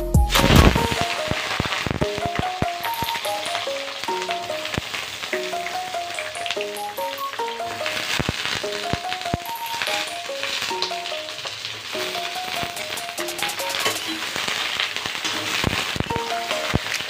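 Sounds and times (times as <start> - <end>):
simple melody: 0.0 - 14.4, 15.5 - 17.0
eggplant frying in oil: 0.4 - 17.0.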